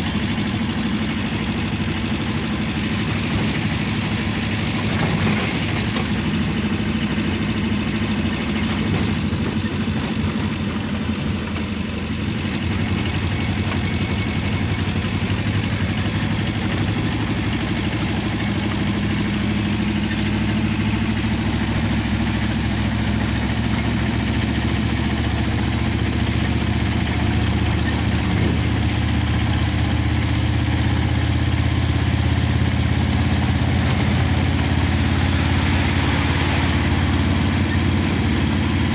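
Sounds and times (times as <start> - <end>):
low engine drone: 0.0 - 38.9.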